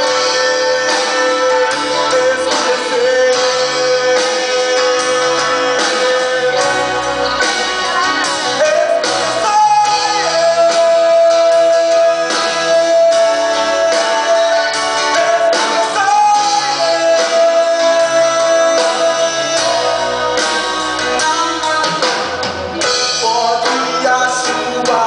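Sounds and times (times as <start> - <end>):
pop-rock band playing: 0.0 - 25.0.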